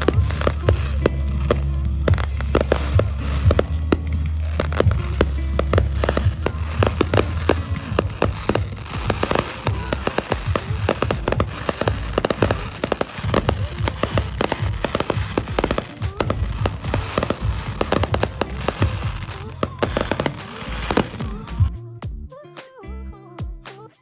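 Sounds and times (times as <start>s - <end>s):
fireworks popping and crackling: 0.0s - 21.7s.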